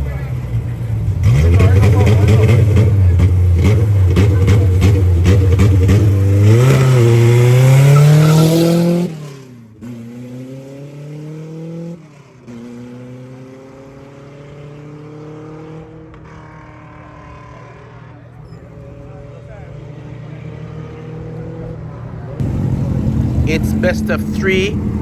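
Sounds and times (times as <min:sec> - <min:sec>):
race car engines accelerating: 0:00.0 - 0:25.0.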